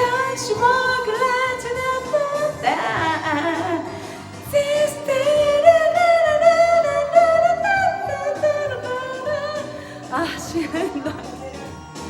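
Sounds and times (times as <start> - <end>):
backing music: 0.0 - 12.0.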